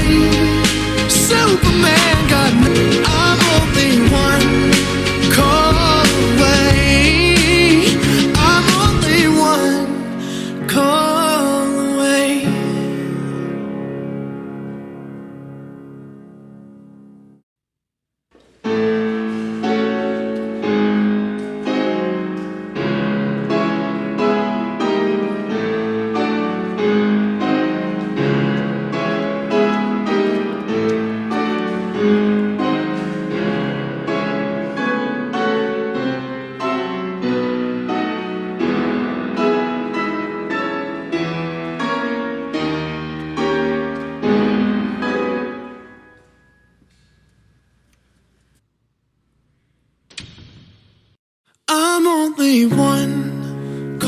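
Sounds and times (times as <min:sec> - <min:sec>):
instrumental piano music: 0:00.0 - 0:17.4, 0:18.5 - 0:47.2, 0:52.6 - 0:54.0.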